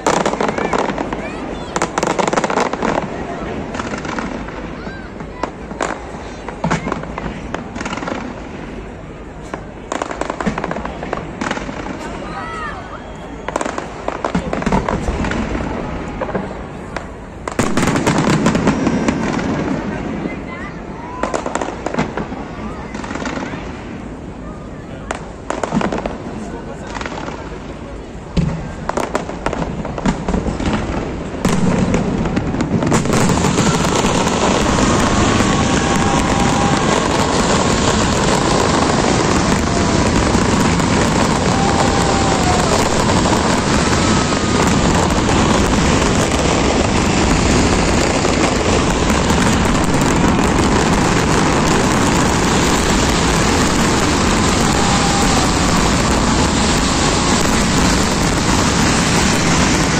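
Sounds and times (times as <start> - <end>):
fireworks bangs and crackle: 0.0 - 59.9.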